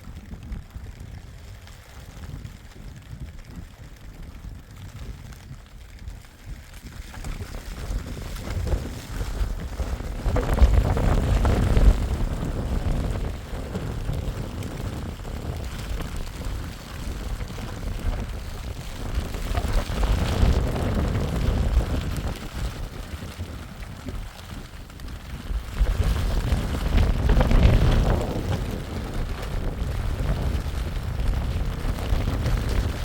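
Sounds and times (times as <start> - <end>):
strong storm wind gusting: 0.0 - 33.0.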